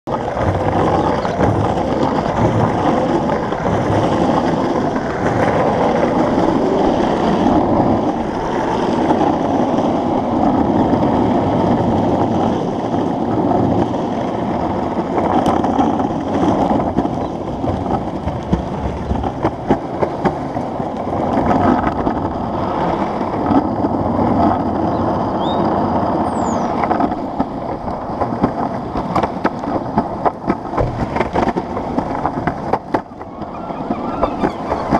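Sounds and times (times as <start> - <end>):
longboard wheels rolling on asphalt: 0.0 - 34.9.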